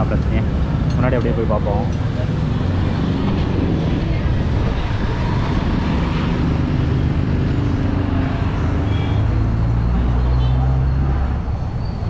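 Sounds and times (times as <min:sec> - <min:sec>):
passing vehicle engines rumbling: 0:00.0 - 0:12.0.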